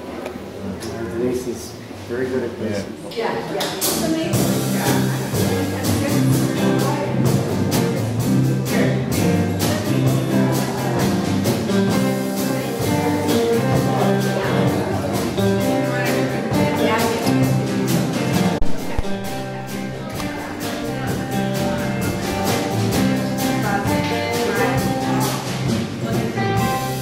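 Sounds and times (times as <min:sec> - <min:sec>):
drum kit beat: 0:03.6 - 0:27.0
electric guitars playing: 0:03.8 - 0:27.0.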